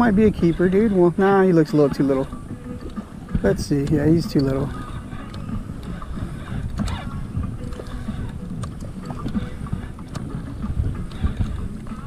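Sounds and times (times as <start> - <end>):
water slapping against boat: 0.0 - 12.0
wind buffeting microphone: 0.0 - 12.0.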